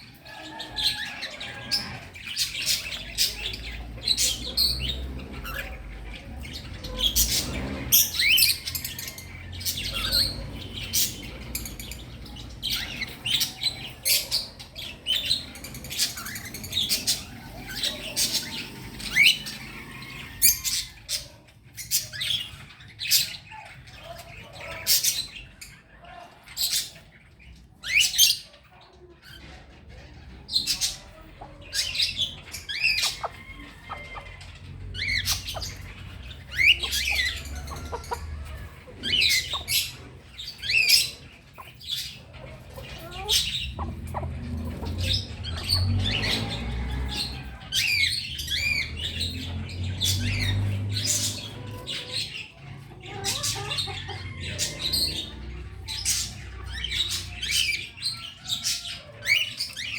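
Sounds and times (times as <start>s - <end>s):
small birds chirping and squawking: 0.0s - 59.9s.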